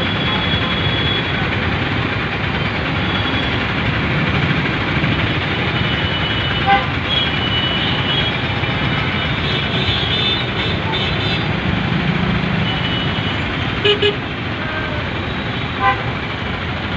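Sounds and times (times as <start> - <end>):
traffic engines humming: 0.0 - 16.9.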